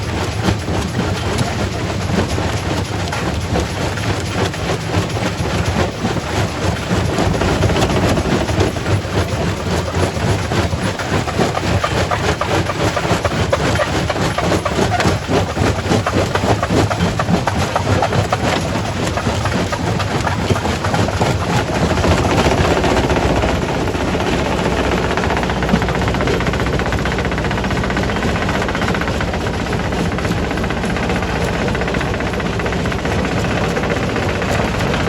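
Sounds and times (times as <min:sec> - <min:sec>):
low machine drone: 0:00.0 - 0:35.0.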